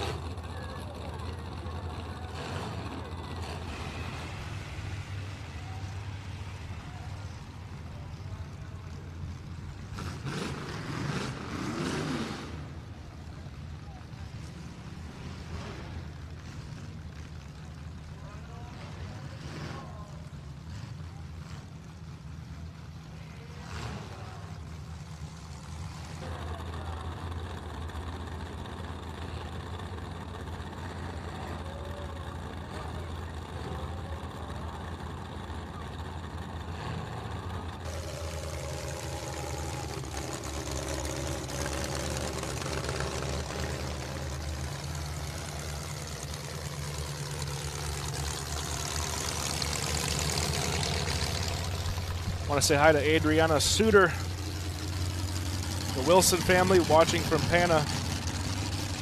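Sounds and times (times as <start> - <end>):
car engines idling and running: 0.0 - 59.0.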